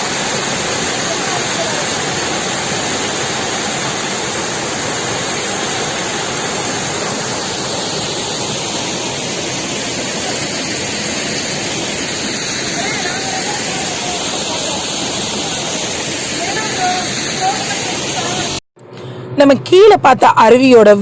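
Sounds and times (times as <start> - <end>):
waterfall rushing: 0.0 - 18.6.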